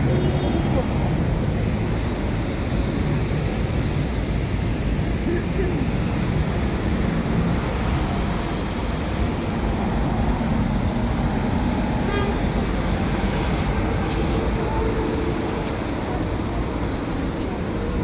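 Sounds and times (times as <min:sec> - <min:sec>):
cars and bus driving past: 0:00.0 - 0:18.0.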